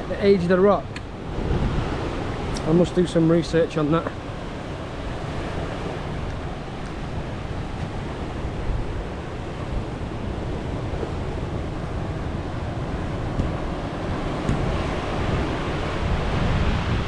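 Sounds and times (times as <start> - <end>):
surf on rocky shore: 0.0 - 17.0
wind on microphone: 0.0 - 17.0.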